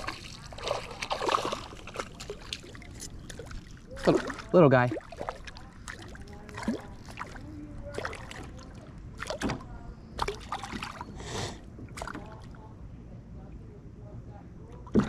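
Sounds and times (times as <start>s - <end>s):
water splashing: 0.0s - 12.7s, 14.8s - 15.0s.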